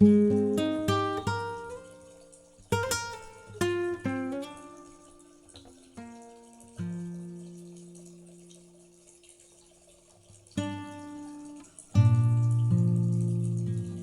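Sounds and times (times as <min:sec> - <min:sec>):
acoustic guitar melody: 0:00.0 - 0:09.0, 0:10.5 - 0:14.0.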